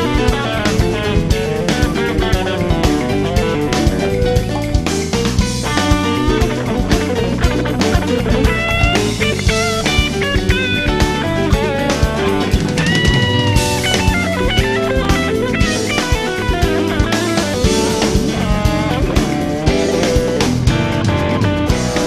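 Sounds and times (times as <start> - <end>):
drum kit beat: 0.0 - 22.0
rock music with electric guitar: 0.0 - 22.0.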